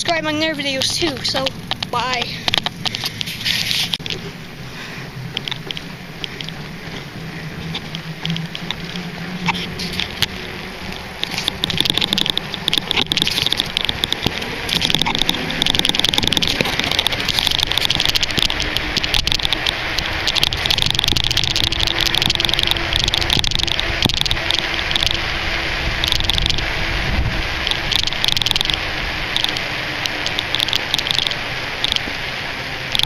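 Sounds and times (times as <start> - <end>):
bicycle frame rattling: 0.0 - 33.0.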